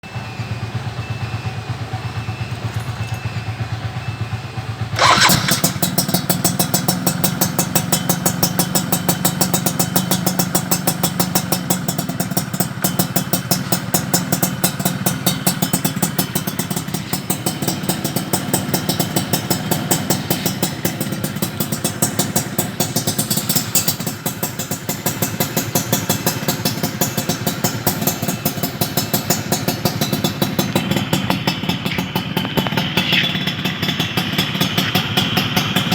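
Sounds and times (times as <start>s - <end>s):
two-stroke engine running: 0.1s - 35.9s.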